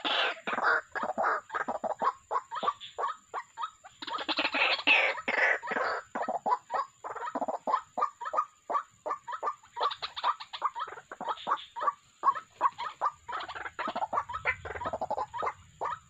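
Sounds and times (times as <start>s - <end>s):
waterhens calling: 0.0s - 16.0s.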